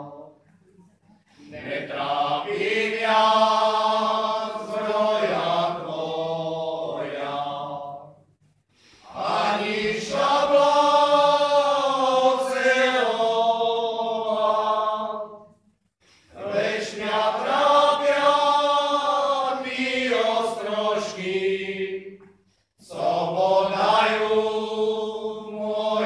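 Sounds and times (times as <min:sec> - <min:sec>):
male group singing a cappella: 0:01.4 - 0:08.2, 0:09.0 - 0:15.5, 0:16.3 - 0:22.2, 0:22.8 - 0:26.0.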